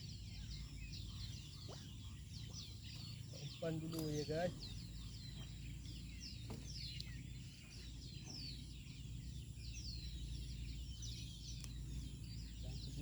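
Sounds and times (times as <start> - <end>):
birds chirping: 0.0 - 13.0
low steady rumble: 0.0 - 13.0.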